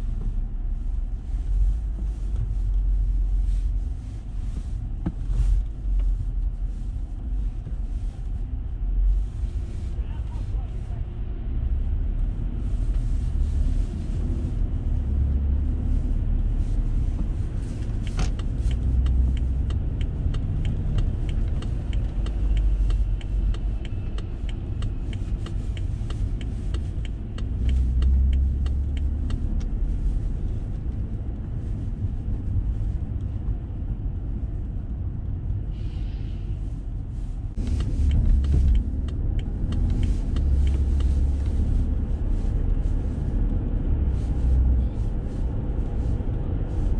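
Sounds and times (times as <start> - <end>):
low rumble of tyres and engine: 0.0 - 46.9.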